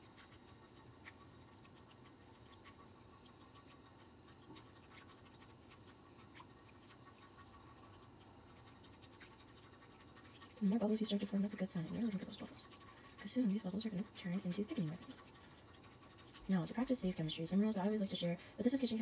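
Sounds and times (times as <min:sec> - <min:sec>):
whisk scratching in a pan: 0:00.0 - 0:19.0.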